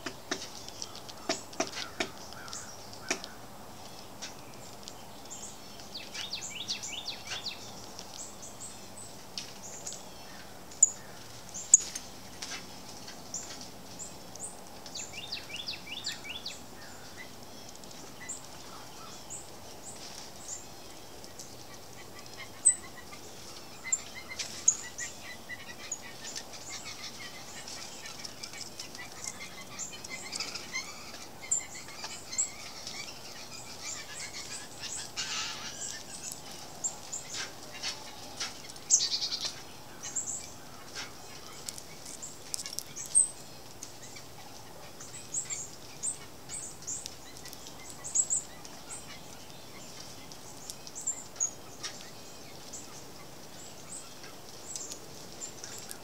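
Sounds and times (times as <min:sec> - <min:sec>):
songbirds chirping and calling: 0:00.0 - 0:56.0.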